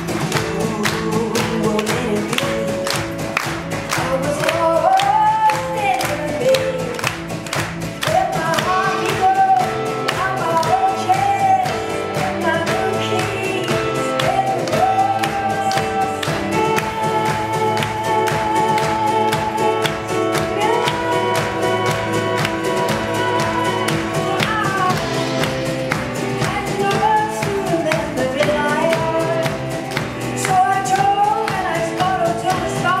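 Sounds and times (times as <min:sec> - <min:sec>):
upbeat folk-pop band: 0:00.0 - 0:33.0
woman singing: 0:00.0 - 0:33.0.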